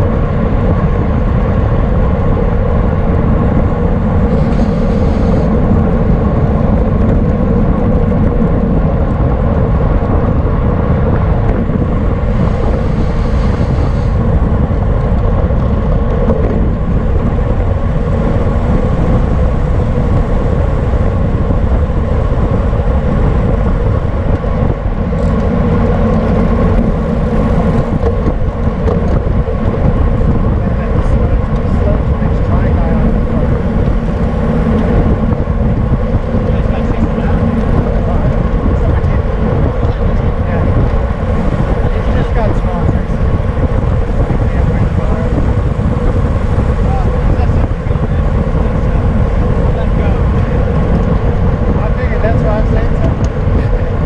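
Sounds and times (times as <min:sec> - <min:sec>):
road rumble: 0:00.0 - 0:54.0
wind rush on microphone: 0:00.0 - 0:54.0.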